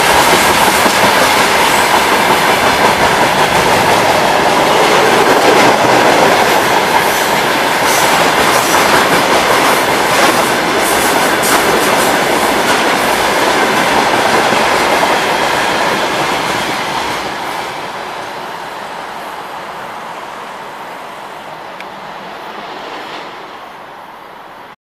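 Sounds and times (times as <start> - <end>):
freight train rolling past: 0.0 - 24.8.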